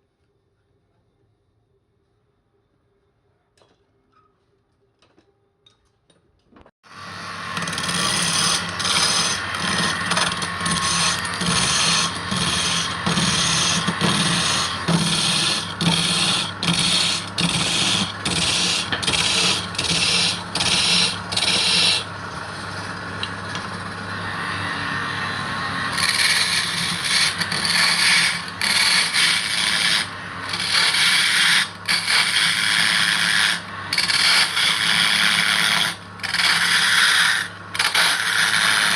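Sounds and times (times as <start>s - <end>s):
tool rubbing spinning wood: 6.9s - 38.9s
wood lathe humming: 6.9s - 38.9s.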